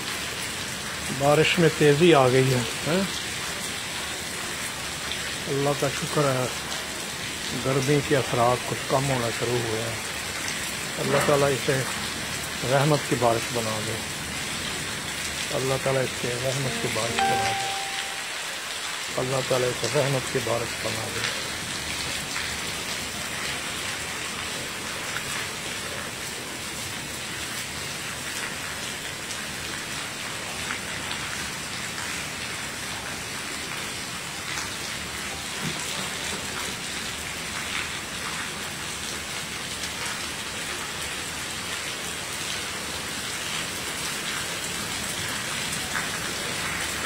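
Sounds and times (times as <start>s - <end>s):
hard rain on concrete roof: 0.0s - 47.0s.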